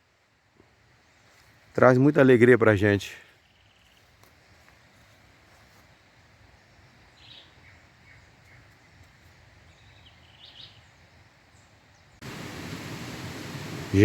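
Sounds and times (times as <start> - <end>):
low rural background: 0.0 - 14.0
songbirds chirping: 0.0 - 14.0.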